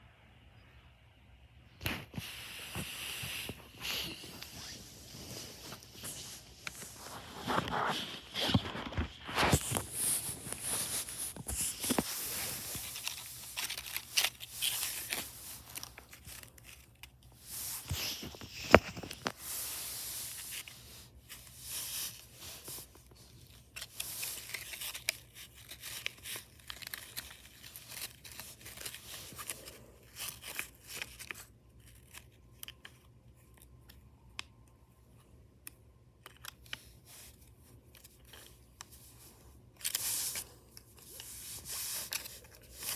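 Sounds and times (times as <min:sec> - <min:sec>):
rustling crinkling and tearing: 0:01.8 - 0:42.9.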